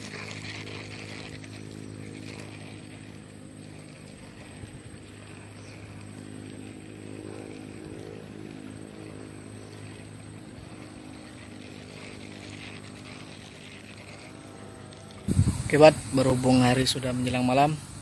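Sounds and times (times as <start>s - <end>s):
distant engine hum: 0.0s - 18.0s.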